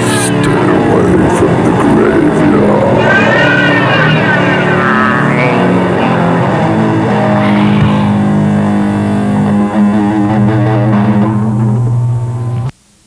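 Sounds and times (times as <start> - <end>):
distorted electric guitar chords: 0.0 - 12.8.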